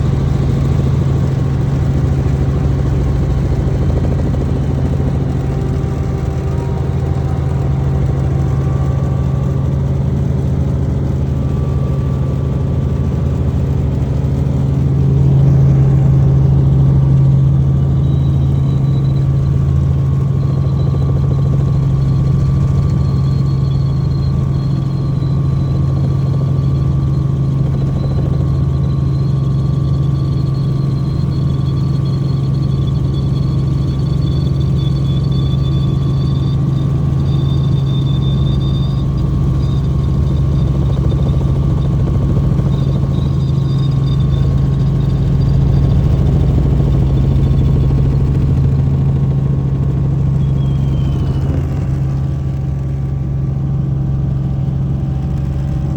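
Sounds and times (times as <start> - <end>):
helicopter rotor and engine drone: 0.0 - 55.9
high whine: 0.0 - 55.9.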